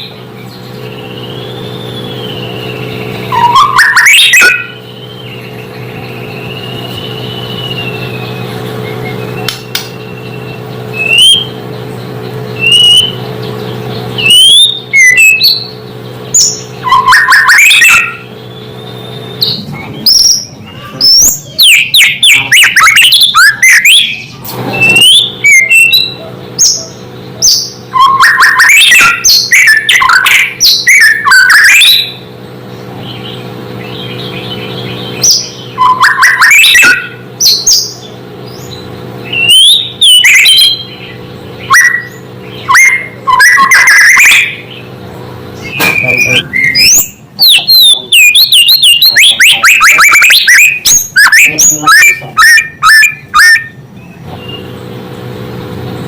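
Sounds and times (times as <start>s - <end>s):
songbird whistling and trilling: 0.0s - 32.3s, 33.0s - 44.9s, 45.6s - 54.8s.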